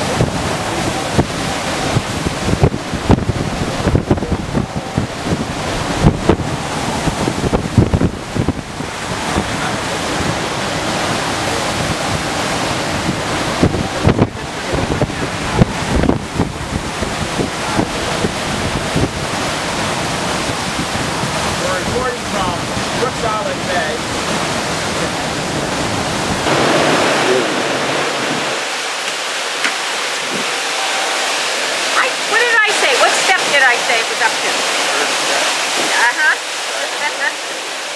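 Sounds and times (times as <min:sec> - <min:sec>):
rushing floodwater: 0:00.0 - 0:37.9
wind gusting against microphone: 0:00.0 - 0:37.9.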